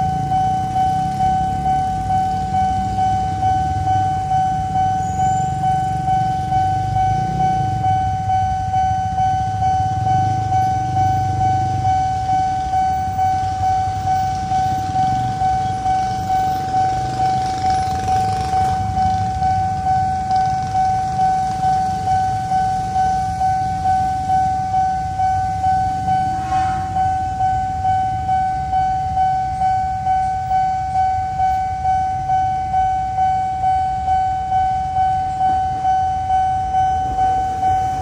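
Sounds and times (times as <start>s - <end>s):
motorcycle engines running: 0.0s - 31.6s
level-crossing warning bell ringing: 0.0s - 38.0s.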